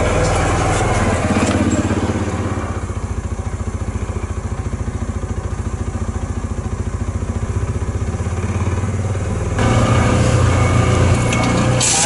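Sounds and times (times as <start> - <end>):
utility vehicle engine idling: 0.0 - 12.0.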